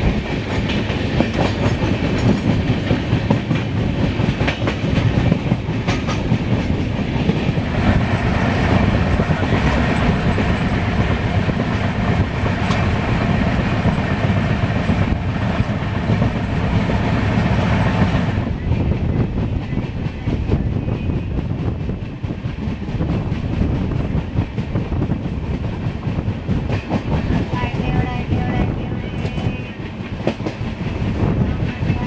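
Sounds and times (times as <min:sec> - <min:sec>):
clickety-clack over rail joints: 0:00.0 - 0:32.0
train wheels rolling on rails: 0:00.0 - 0:32.0.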